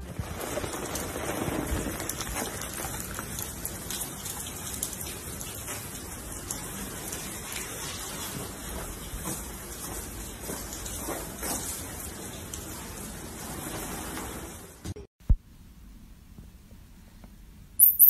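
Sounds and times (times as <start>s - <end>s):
rain on wet pavement: 0.0s - 14.8s.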